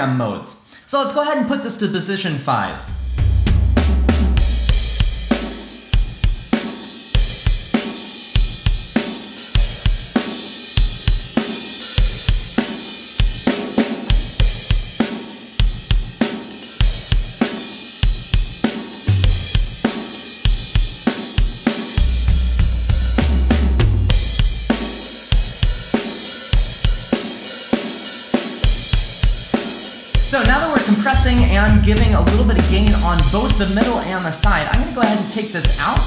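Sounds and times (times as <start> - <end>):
drum kit playing a beat: 2.8 - 36.0.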